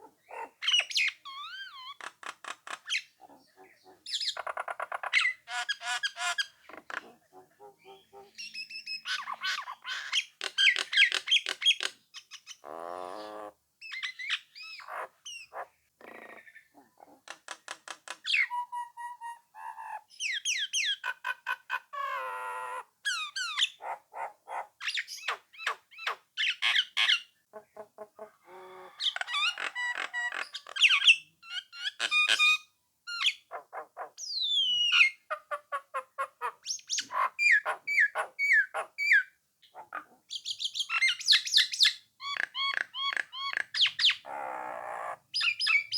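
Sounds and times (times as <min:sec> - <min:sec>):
myna bird song: 0:00.0 - 0:45.9.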